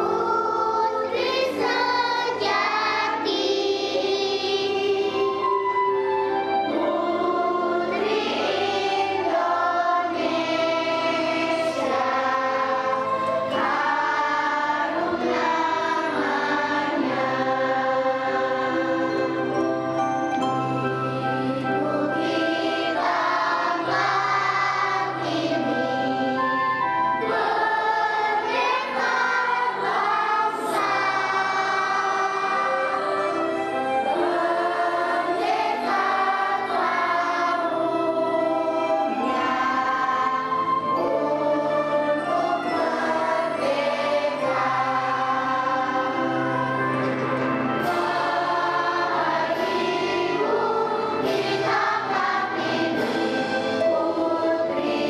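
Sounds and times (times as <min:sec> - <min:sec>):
children singing in chorus: 0:00.0 - 0:19.6, 0:21.0 - 0:55.0
instrumental accompaniment: 0:00.0 - 0:55.0.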